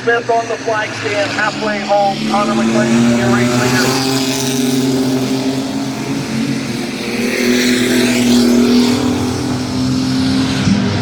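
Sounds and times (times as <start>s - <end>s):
race truck engines at high revs: 0.0s - 11.0s.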